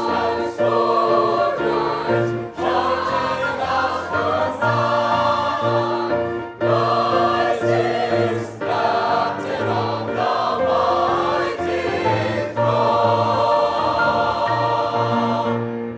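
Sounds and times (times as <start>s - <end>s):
choir singing a hymn: 0.0s - 15.9s.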